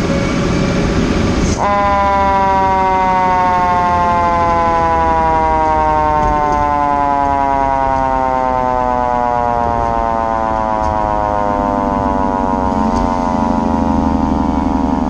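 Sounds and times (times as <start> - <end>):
engine and road noise: 0.0 - 15.0
fire engine siren falling in pitch: 0.3 - 15.0.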